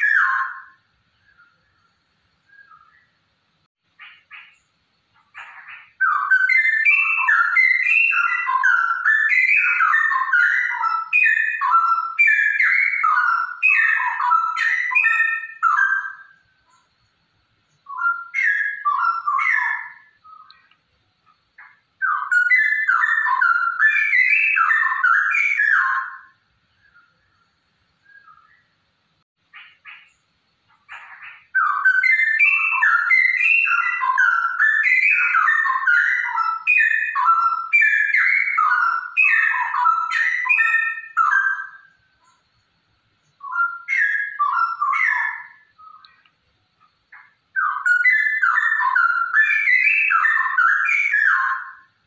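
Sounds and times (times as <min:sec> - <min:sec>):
bird singing warbling whistles: 0:00.0 - 0:03.2, 0:04.0 - 0:16.9, 0:17.7 - 0:20.7, 0:21.6 - 0:27.4, 0:28.0 - 0:28.7, 0:30.9 - 0:42.4, 0:43.2 - 0:46.3, 0:47.1 - 0:52.0.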